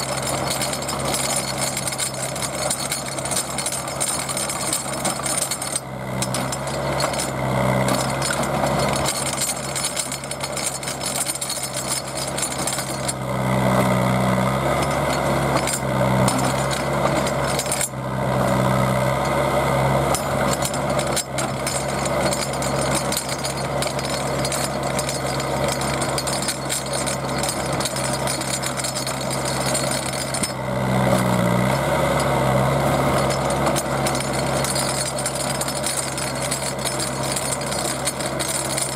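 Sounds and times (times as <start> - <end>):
auger grinding into ground: 0.0 - 38.9
drill rig engine under load: 0.0 - 38.9.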